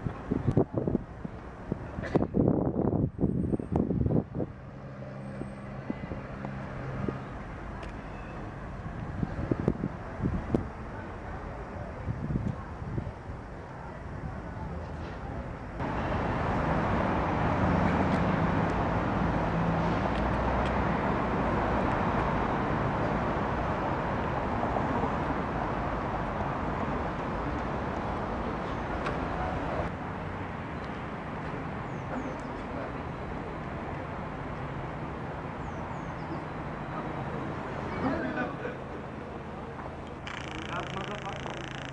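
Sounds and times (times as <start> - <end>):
outdoor rushing noise: 0.0 - 41.1.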